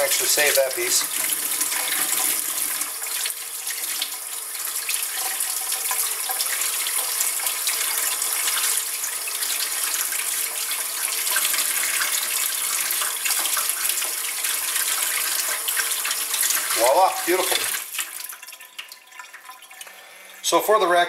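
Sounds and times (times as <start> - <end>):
faucet running into steel sink: 0.0 - 20.6.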